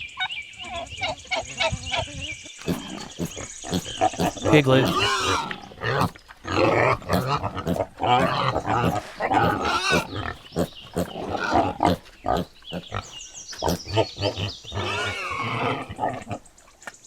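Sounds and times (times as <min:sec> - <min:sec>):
piglet grunting and squealing: 0:02.6 - 0:16.4.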